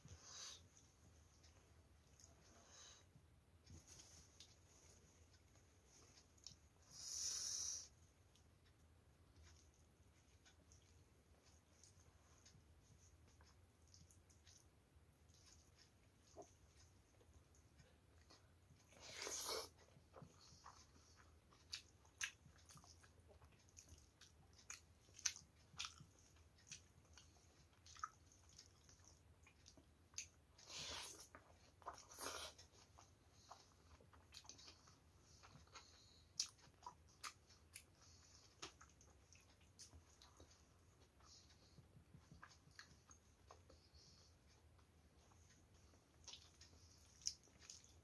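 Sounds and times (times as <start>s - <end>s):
person chewing food: 0.0s - 48.0s.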